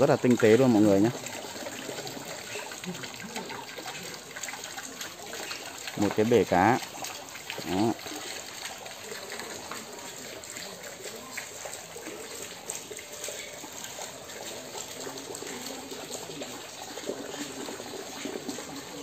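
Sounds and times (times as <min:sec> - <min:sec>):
running water trickling: 0:00.0 - 0:19.0.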